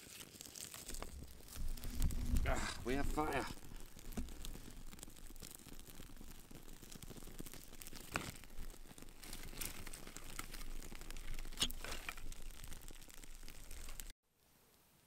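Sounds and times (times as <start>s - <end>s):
sharp pops from fire: 0.0s - 14.1s
fire crackling: 0.0s - 14.8s.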